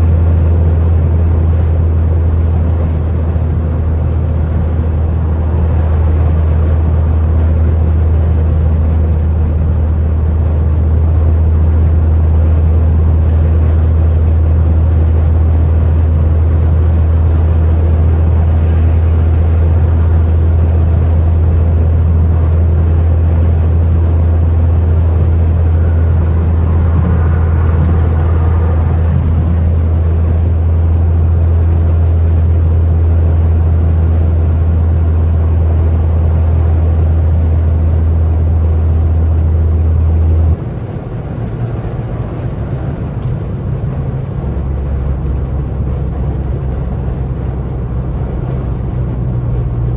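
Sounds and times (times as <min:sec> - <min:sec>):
loud low exhaust drone: 0:00.0 - 0:49.9.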